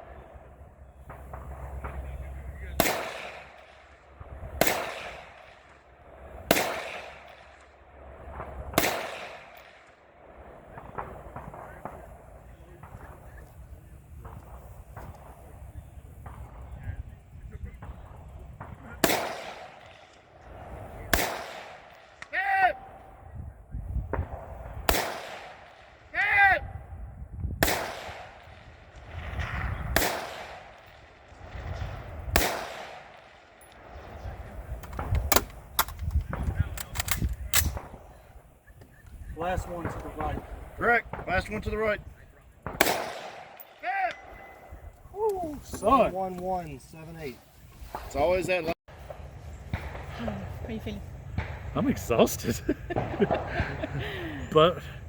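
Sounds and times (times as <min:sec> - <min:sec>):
gunshots with rolling echo: 0:00.0 - 0:38.6, 0:39.3 - 0:45.0, 0:45.8 - 0:53.9.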